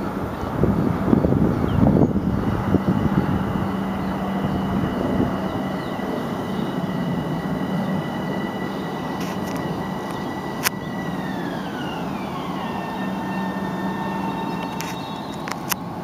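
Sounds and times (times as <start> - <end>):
train wheels rushing on rail: 0.0 - 16.0
thin high whines: 0.6 - 16.0.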